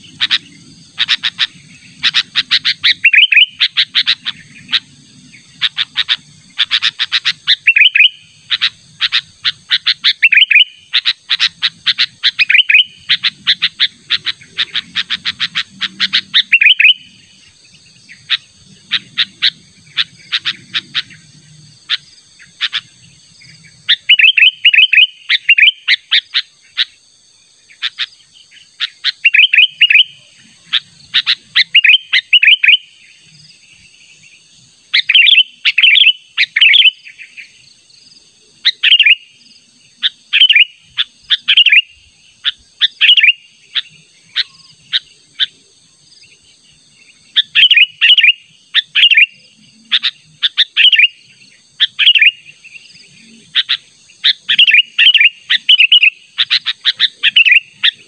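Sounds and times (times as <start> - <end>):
bird chirping calls: 0.0 - 27.0, 27.6 - 58.0.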